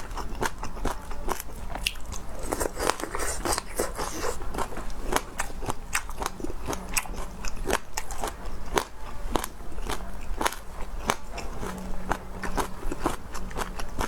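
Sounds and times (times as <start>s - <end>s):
crunchy food chewing: 0.0s - 14.0s.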